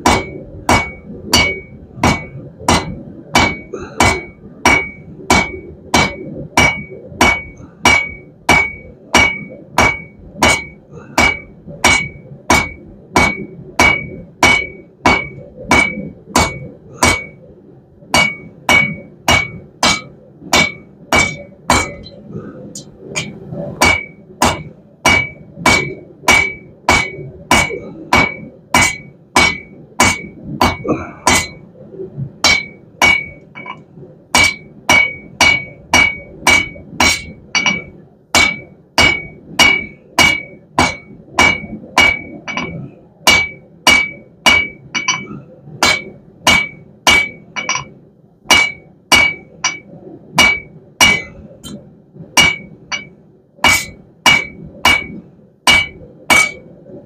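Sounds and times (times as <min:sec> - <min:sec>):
hammer ringing on anvil: 0:00.0 - 0:17.4, 0:18.2 - 0:22.2, 0:23.2 - 0:31.6, 0:32.4 - 0:33.8, 0:34.4 - 0:47.9, 0:48.5 - 0:51.8, 0:52.4 - 0:56.6.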